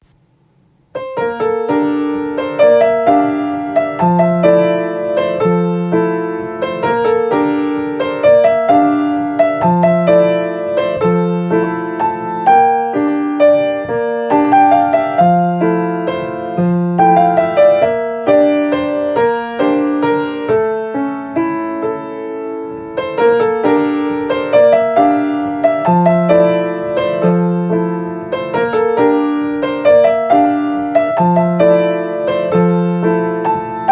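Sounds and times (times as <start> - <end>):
solo piano playing: 0.0 - 33.9.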